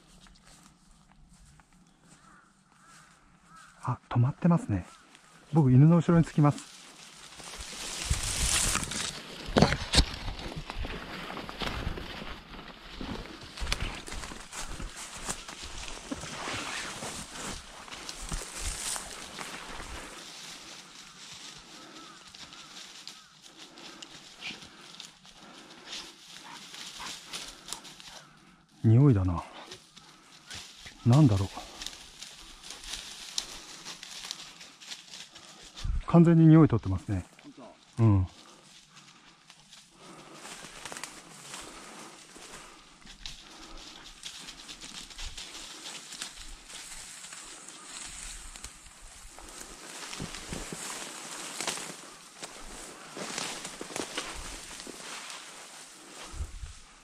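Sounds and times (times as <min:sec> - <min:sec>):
footsteps through dry grass: 0:00.0 - 0:57.0.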